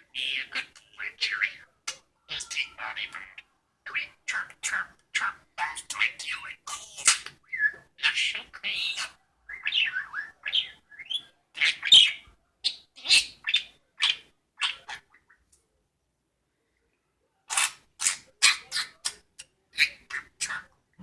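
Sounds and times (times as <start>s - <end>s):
budgerigar chirping: 0.2s - 15.3s, 17.5s - 19.2s, 19.8s - 20.7s.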